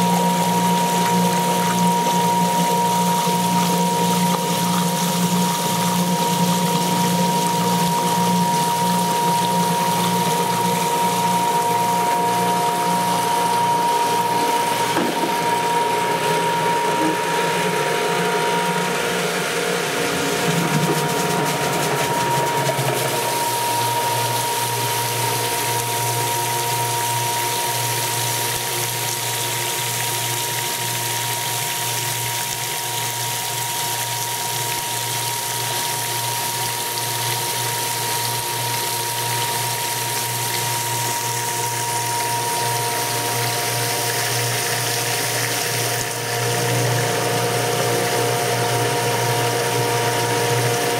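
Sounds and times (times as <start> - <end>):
pump humming: 0.0 - 50.9
water churning into tank: 0.0 - 50.9.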